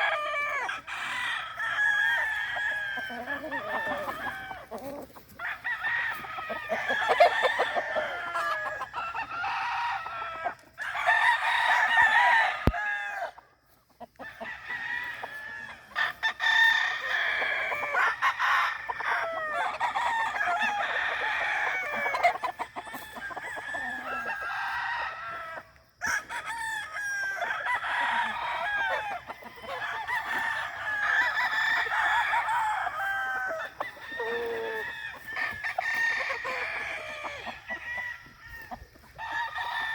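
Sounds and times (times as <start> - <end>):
chickens clucking: 0.0 - 12.4, 13.4 - 39.9
roosters crowing: 0.0 - 39.9.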